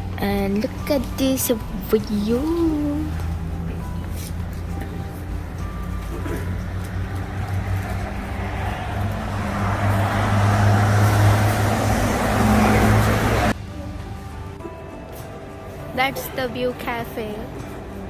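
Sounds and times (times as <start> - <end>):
rushing traffic noise: 0.0 - 18.0
traffic engine hum: 0.0 - 18.0.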